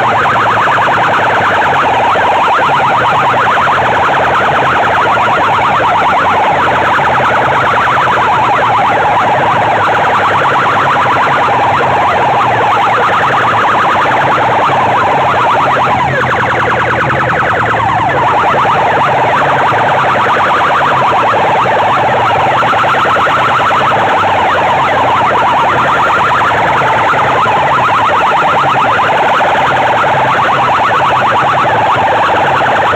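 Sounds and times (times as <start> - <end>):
loudspeakers blasting siren-like tone: 0.0 - 32.9.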